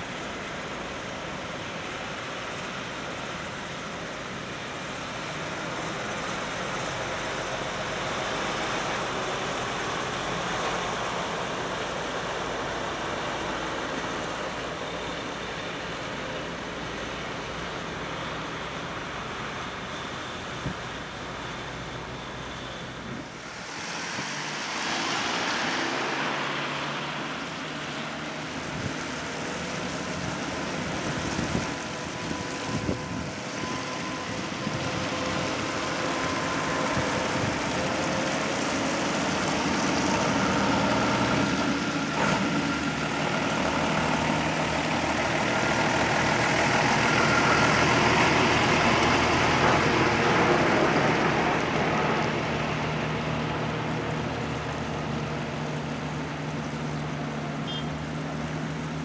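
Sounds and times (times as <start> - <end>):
truck engine whine: 0.0 - 59.0
truck engines running: 0.0 - 59.0
tyre hiss on wet road: 0.0 - 59.0.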